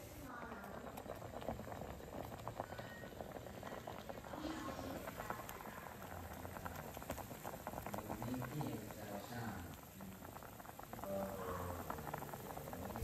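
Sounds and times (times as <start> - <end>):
broth boiling with bubbling pops: 0.0 - 13.0.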